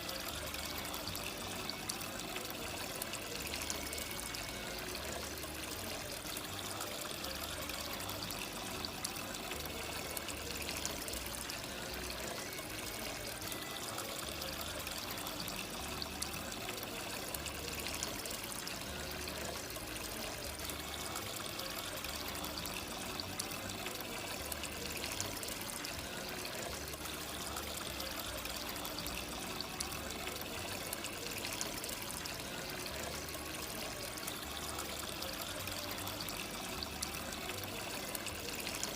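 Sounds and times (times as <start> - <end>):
fountain water trickling: 0.0 - 38.9.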